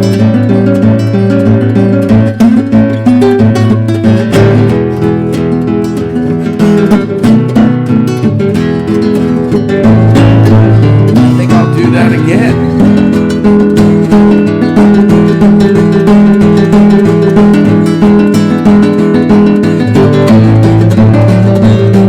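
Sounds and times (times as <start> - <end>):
finger-picked classical guitar: 0.0 - 22.0.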